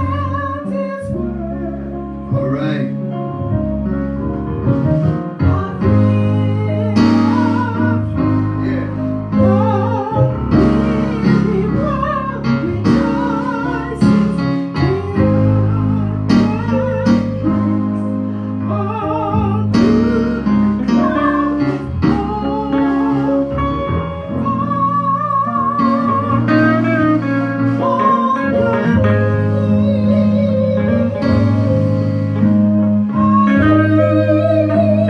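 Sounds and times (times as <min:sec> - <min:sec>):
bass: 0:00.0 - 0:35.0
electric guitar lead melody: 0:00.0 - 0:35.0
keyboard chords: 0:00.0 - 0:35.0.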